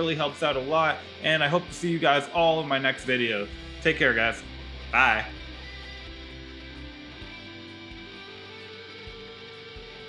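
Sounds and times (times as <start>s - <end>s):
instrumental guitar music with beat: 0.0s - 10.0s.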